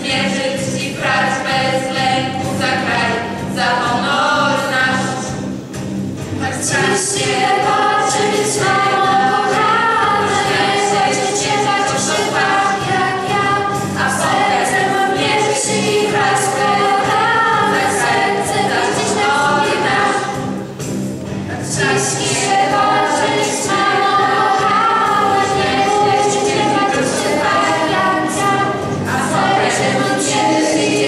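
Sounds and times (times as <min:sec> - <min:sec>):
girls singing into microphones: 0:00.0 - 0:05.4, 0:06.4 - 0:20.6, 0:21.5 - 0:31.0.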